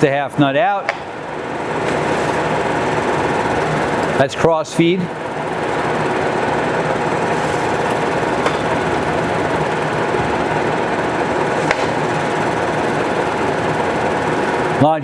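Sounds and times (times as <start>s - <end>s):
lathe whirring with gear chatter: 0.0s - 15.0s.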